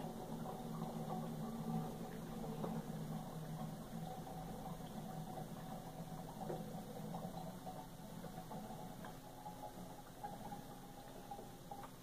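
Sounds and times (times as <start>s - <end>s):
steady low hum: 0.0s - 12.0s
water trickling between bottles: 0.0s - 12.0s.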